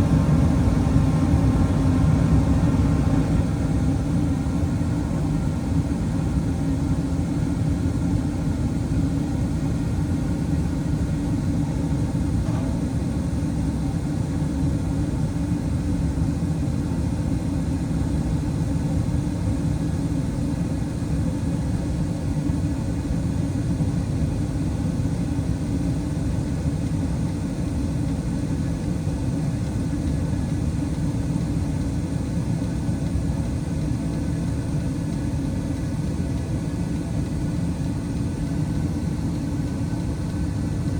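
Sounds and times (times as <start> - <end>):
furnace fan motor humming: 0.0 - 40.9.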